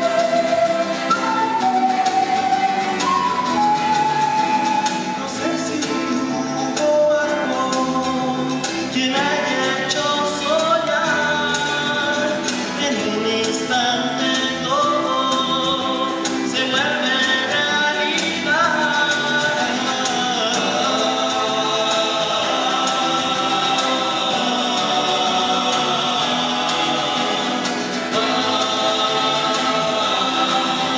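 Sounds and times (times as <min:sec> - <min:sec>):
men singing together: 0:00.0 - 0:30.9
strummed classical guitars: 0:00.0 - 0:30.9.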